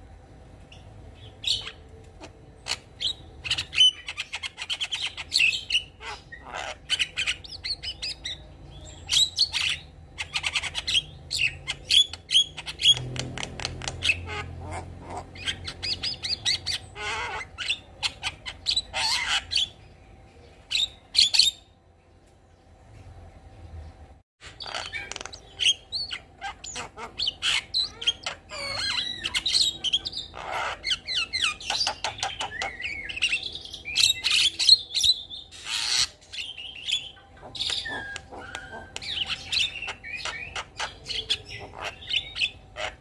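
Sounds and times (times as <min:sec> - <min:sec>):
myna bird singing: 0:00.6 - 0:21.8, 0:22.4 - 0:43.0.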